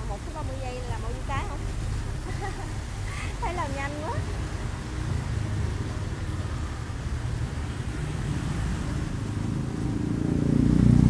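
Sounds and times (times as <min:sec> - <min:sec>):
street traffic rumble: 0:00.0 - 0:11.0
vehicle engine approaching: 0:00.0 - 0:11.0.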